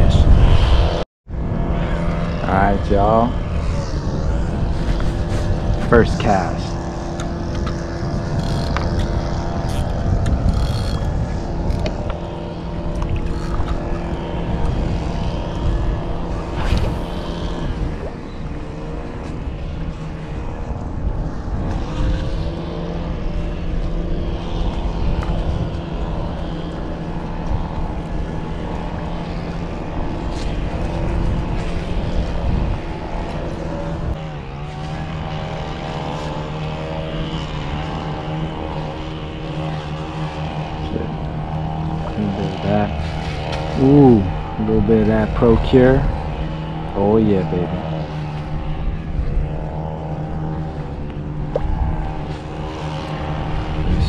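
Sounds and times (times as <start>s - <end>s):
boat motor droning: 0.0s - 54.0s.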